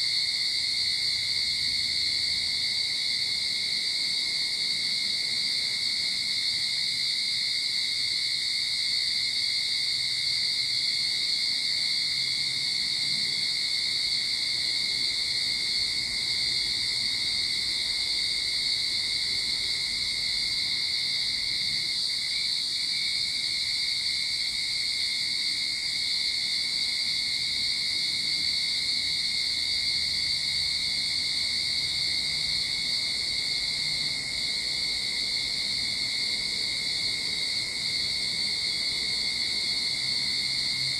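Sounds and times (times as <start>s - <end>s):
cicadas chorusing: 0.0s - 40.9s.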